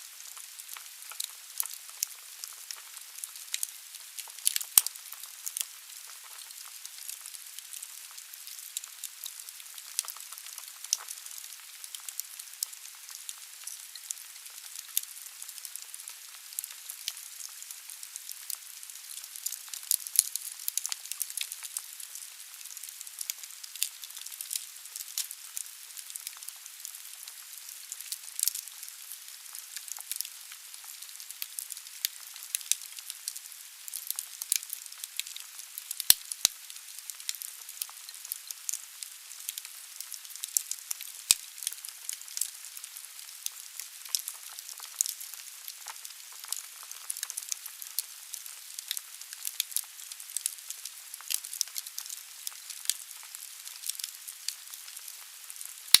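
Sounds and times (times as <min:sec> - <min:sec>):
firewood crackling and popping: 0:00.2 - 0:42.6, 0:43.2 - 0:56.0.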